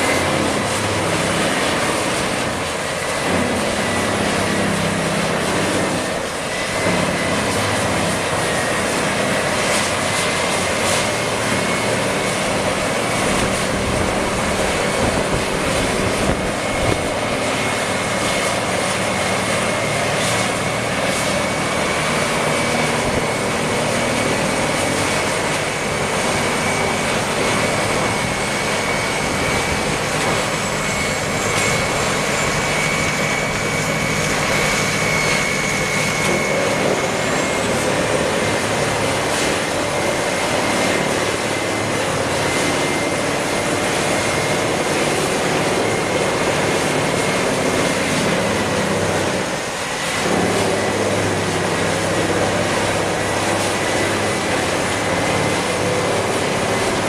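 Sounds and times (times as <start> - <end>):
wood-processing machine whining: 0.0 - 57.0.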